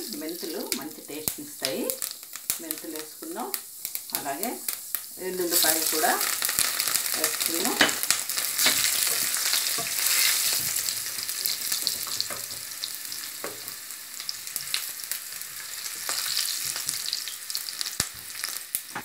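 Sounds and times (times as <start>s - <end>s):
seeds and garlic sizzling in oil: 0.0s - 19.0s.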